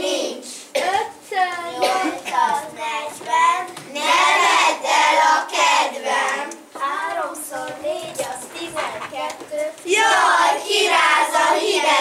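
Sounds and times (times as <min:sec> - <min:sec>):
children singing: 0:01.6 - 0:12.0.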